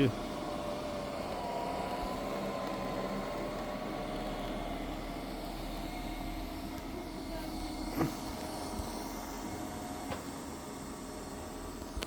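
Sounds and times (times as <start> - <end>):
robot vacuum fan whirring: 0.0 - 12.0.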